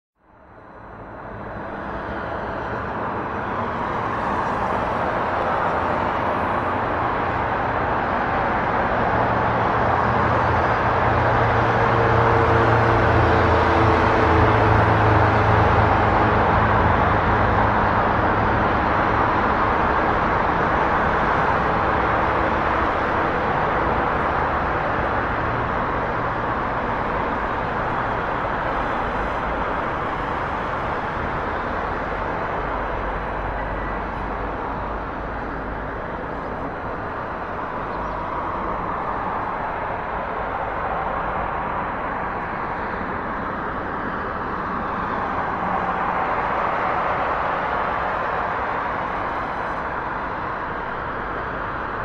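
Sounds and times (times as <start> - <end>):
street traffic noise: 0.2 - 52.0.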